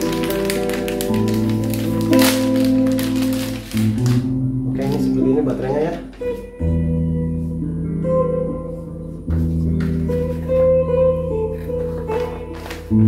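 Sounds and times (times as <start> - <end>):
electric guitar chords and notes: 0.0 - 13.0.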